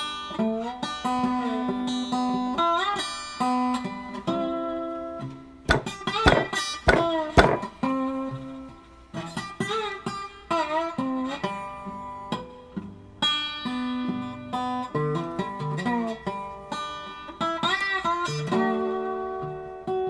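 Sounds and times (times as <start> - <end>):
plucked guitar with pitch bends: 0.0 - 20.0.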